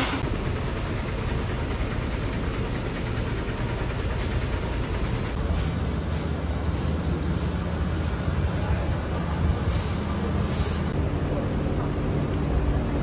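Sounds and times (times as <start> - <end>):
moving vehicle rumble and hiss: 0.0 - 13.0.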